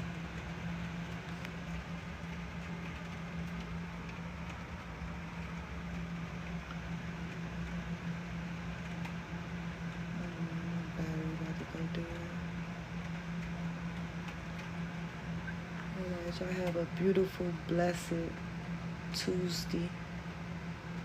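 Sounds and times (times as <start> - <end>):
constant low hum: 0.0 - 21.0
steady rain: 0.0 - 21.0.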